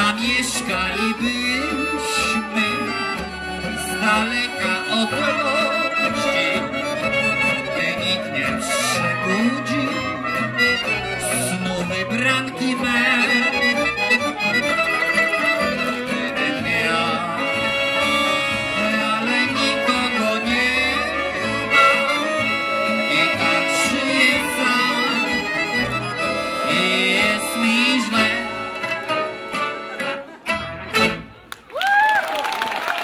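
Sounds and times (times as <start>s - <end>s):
banjo: 0.0s - 31.5s
double bass: 0.0s - 31.5s
guitars: 0.0s - 31.5s.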